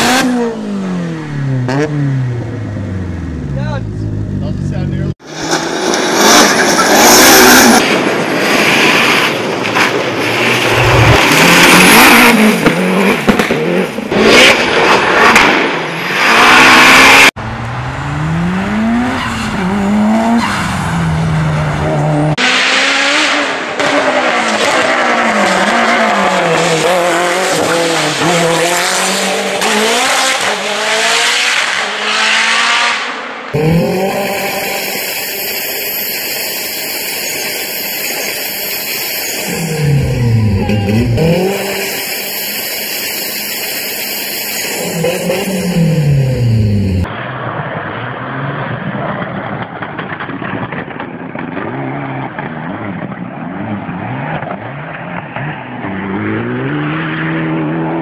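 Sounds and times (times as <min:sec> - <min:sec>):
engines revving through gears: 0:00.0 - 0:08.0, 0:10.6 - 0:42.3, 0:44.1 - 0:47.2, 0:51.4 - 0:58.0
rally car engine and gravel roar: 0:00.0 - 0:58.0.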